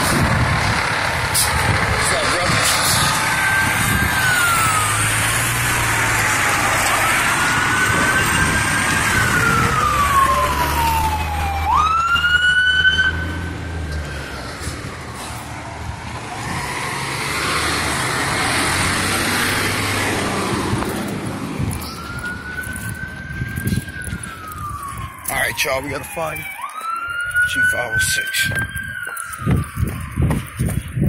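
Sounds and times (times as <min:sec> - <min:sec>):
heavy truck engine rumble: 0:00.0 - 0:27.7
fire truck siren wailing: 0:00.0 - 0:31.0.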